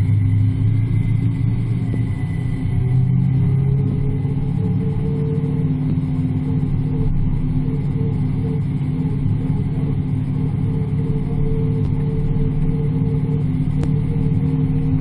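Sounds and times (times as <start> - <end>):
car engine deep rumble: 0.0 - 15.0.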